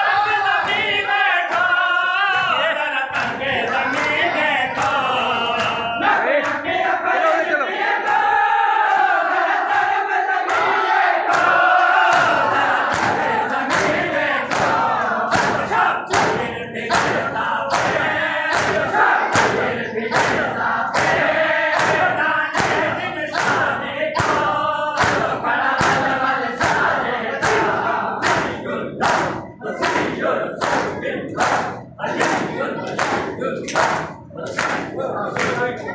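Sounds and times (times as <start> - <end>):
many voices chanting a lament: 0.0 - 35.9.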